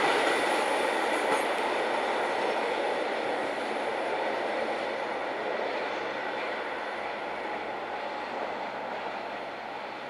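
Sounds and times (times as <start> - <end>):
train running on rails: 0.0 - 10.0.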